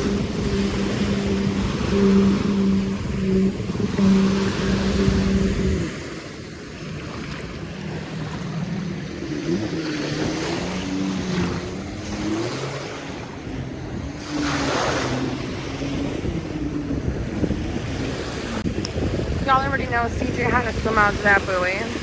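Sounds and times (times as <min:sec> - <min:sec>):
motorboat engine running: 0:00.0 - 0:22.0
surf washing on shore: 0:00.0 - 0:22.0.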